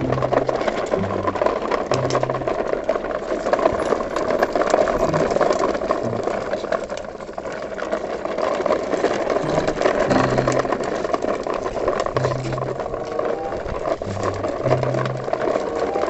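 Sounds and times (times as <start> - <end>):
plastic toy wheels rattling on concrete: 0.0 - 16.0.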